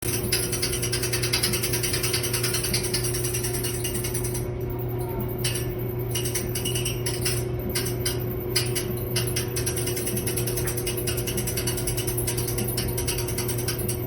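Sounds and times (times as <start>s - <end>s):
clothes dryer humming: 0.0s - 14.0s
rapid mechanical clicking rattle: 0.0s - 14.0s.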